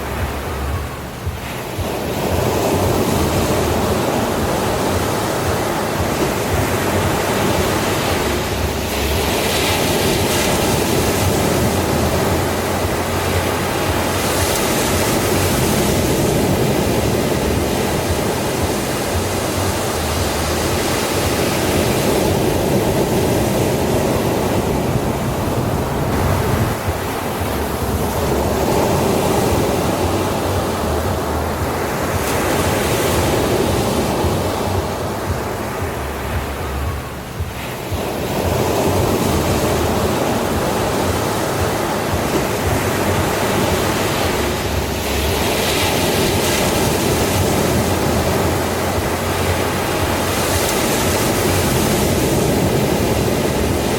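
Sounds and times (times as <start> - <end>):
surf washing onto beach: 0.0 - 53.9.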